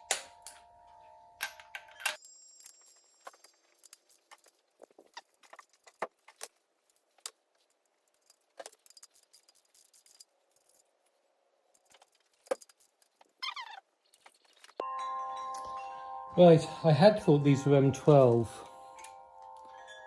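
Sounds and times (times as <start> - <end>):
metal tools clinking: 0.0 - 11.0, 11.7 - 20.0.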